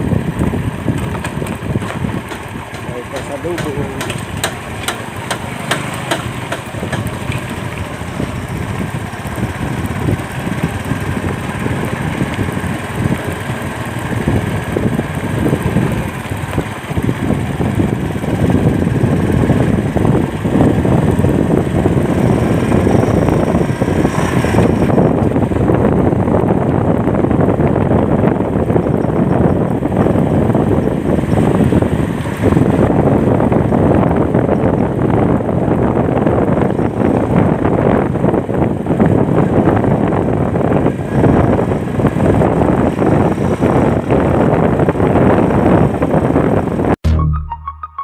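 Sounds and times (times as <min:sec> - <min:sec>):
motorcycle engine running: 0:00.0 - 0:47.0
wind rushing over microphone: 0:00.0 - 0:47.0.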